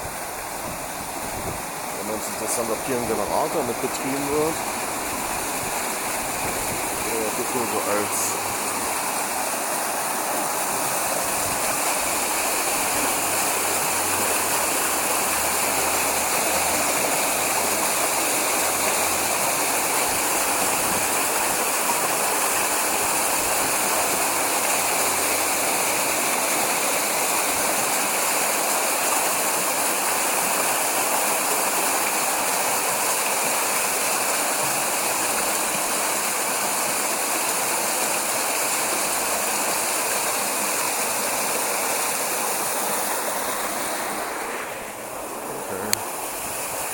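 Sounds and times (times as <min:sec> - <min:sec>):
water rushing in stone channel: 0:00.0 - 0:46.9.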